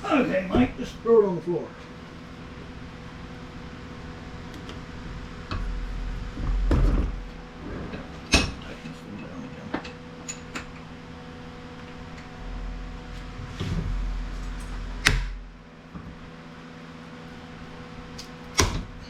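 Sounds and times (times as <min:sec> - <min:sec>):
low handling rumble: 0:00.0 - 0:18.1.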